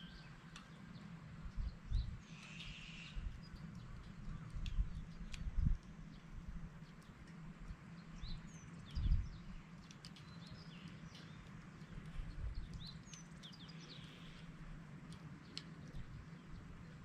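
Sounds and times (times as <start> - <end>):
campfire crackling and popping: 0.0 - 17.0
small birds chirping: 0.0 - 17.0.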